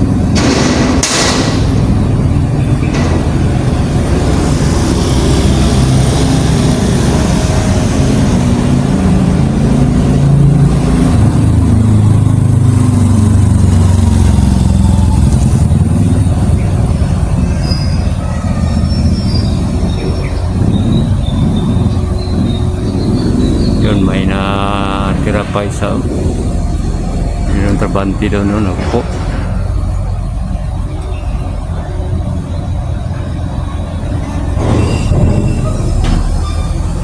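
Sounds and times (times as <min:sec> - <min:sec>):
heavy vehicle engine rumbling: 0:00.0 - 0:37.0.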